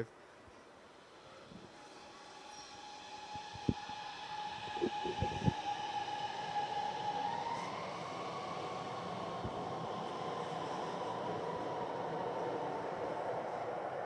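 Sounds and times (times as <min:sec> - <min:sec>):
electric train whine: 0:00.0 - 0:14.0.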